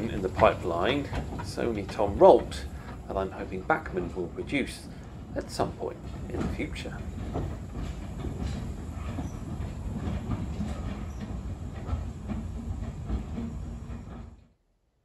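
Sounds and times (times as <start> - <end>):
wheels clicking over rail joints: 0.0 - 14.5
steam locomotive rumbling: 0.0 - 14.6.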